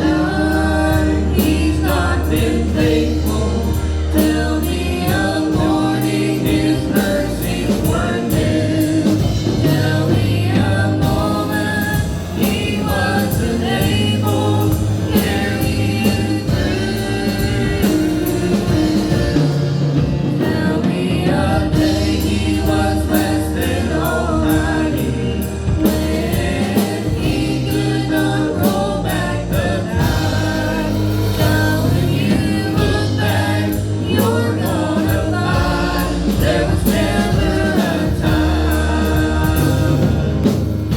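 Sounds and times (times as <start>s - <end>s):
instrumental backing with beat: 0.0s - 40.9s
vocal group singing gospel: 0.0s - 40.9s.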